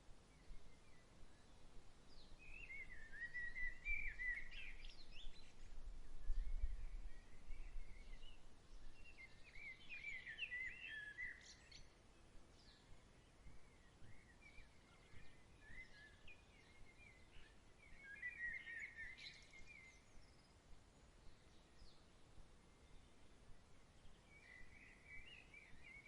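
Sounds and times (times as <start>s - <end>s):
steady outdoor hiss: 0.0s - 26.0s
songbird warbling chirps: 0.4s - 22.1s, 23.9s - 26.0s.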